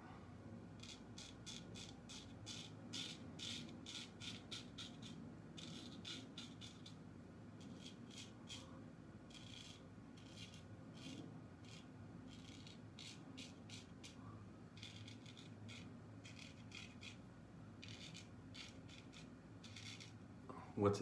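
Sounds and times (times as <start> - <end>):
straight razor scraping stubble: 0.8 - 7.0, 7.6 - 8.7, 9.3 - 14.2, 14.8 - 20.2.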